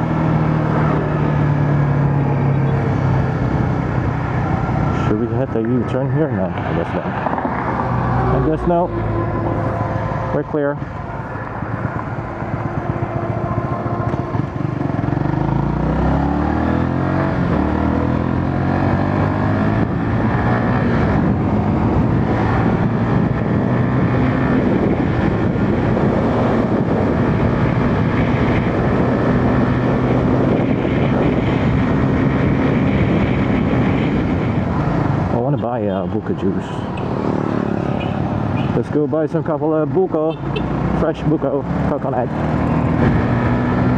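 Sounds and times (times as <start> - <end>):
wind noise: 0.0 - 38.9, 42.2 - 43.9
motorcycle engine: 0.0 - 43.9.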